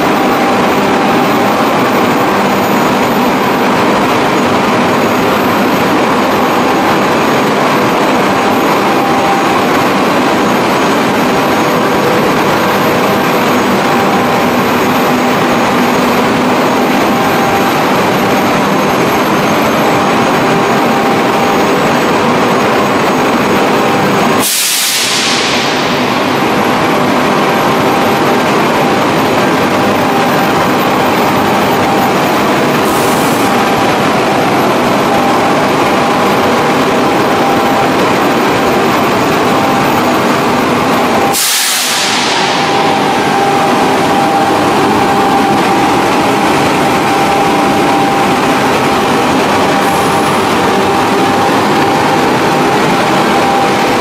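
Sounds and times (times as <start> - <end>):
fans and air rushing hum: 0.0 - 54.0
steady machine tones: 0.0 - 54.0.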